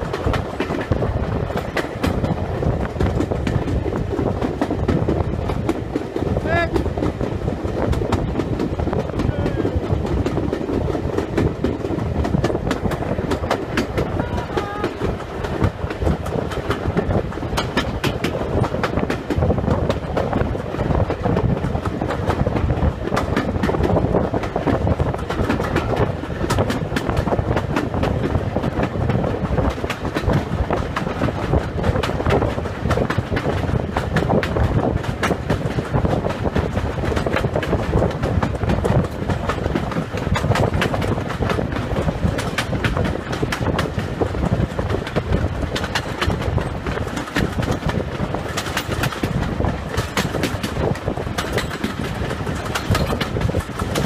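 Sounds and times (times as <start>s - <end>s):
train wheels rumbling on rails: 0.0s - 54.0s
wheel clicks on rails: 0.0s - 54.0s.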